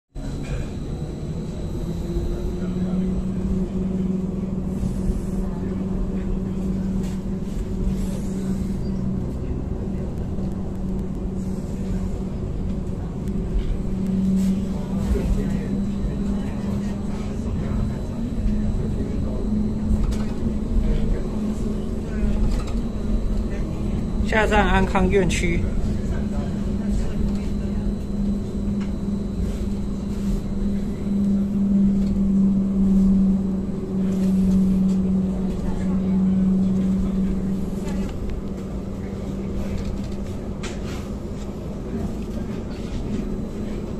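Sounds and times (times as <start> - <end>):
tram rumble: 0.1 - 43.9
constant hum: 0.2 - 43.9.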